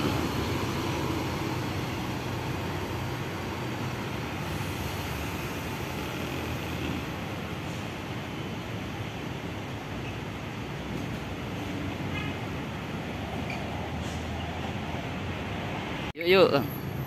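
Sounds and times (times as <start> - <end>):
bus engine running: 0.0 - 16.1
traffic noise: 0.0 - 17.0.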